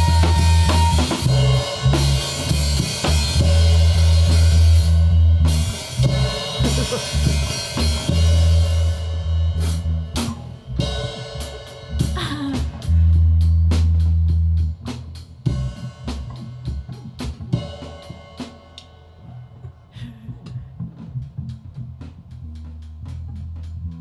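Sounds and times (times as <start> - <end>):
electric bass: 0.0 - 18.6, 19.2 - 24.0
drum kit: 0.0 - 24.0.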